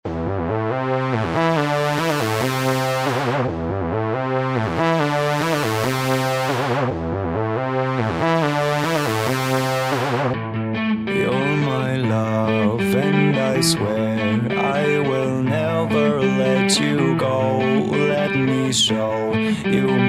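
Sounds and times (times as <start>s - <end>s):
low bass line: 0.1s - 20.0s
synthesizer chords: 0.1s - 20.0s.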